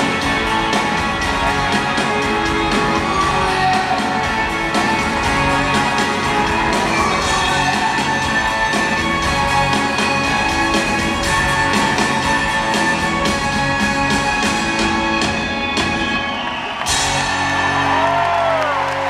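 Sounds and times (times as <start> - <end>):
live rock band playing: 0.0 - 18.9.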